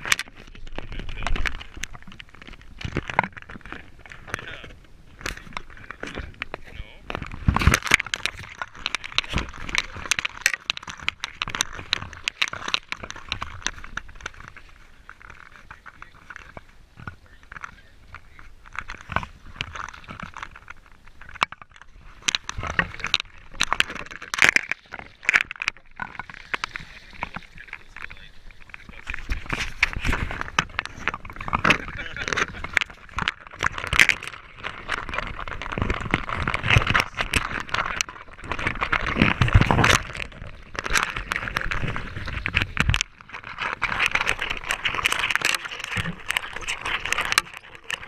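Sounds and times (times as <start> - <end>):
sharp crackles and knocks: 0.0 - 48.0
water splashing against camera housing: 0.0 - 48.0.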